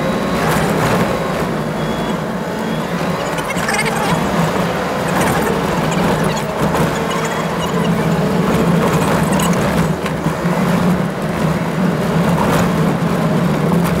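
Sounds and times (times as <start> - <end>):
car engine drone: 0.0 - 14.0.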